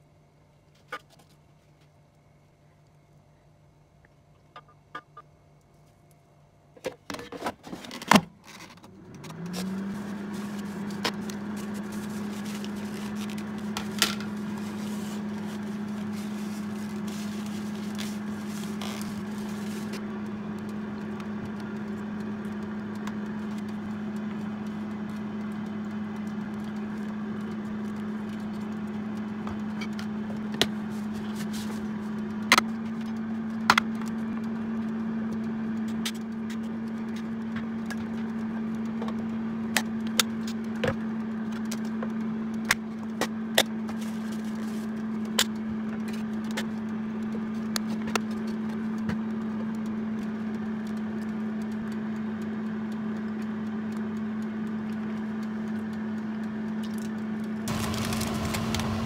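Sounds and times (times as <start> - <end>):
air fryer fan humming: 8.8 - 59.0.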